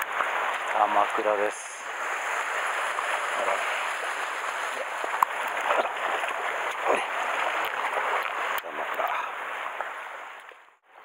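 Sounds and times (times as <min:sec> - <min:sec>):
sea water splashing on rocks: 0:00.0 - 0:10.6.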